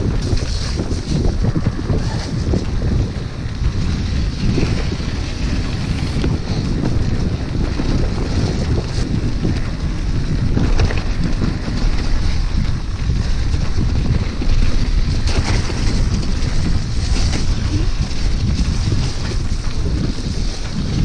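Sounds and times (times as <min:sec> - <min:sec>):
bike tyre noise: 0:00.0 - 0:21.0
wind rumbling on microphone: 0:00.0 - 0:21.0.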